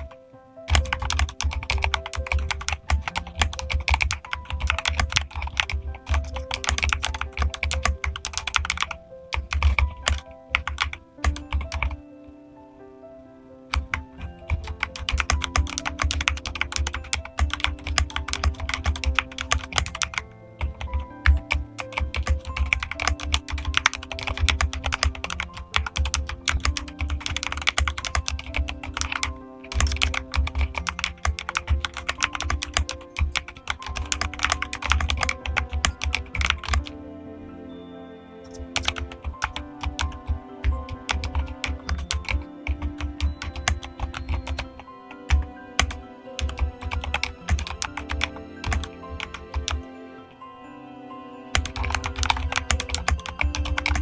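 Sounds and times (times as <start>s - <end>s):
mechanical keyboard typing: 0.0s - 12.0s, 13.7s - 37.0s, 38.5s - 49.8s, 51.5s - 54.0s
background music: 0.0s - 54.0s.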